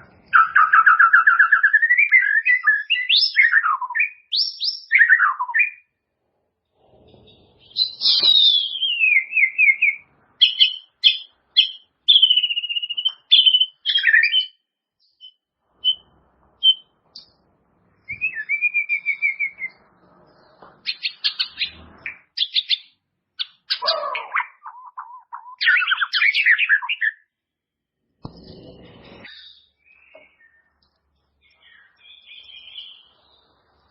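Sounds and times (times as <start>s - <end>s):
bird singing whistles and trills: 0.1s - 5.9s, 7.1s - 17.4s, 18.0s - 27.3s, 28.3s - 33.9s.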